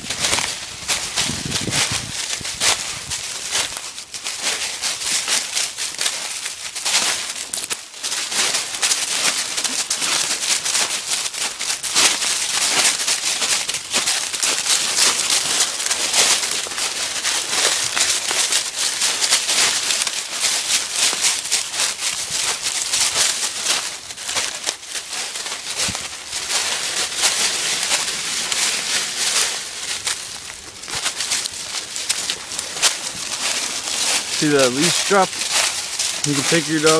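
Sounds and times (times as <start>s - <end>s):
footsteps crunching dry leaves: 0.0s - 36.9s.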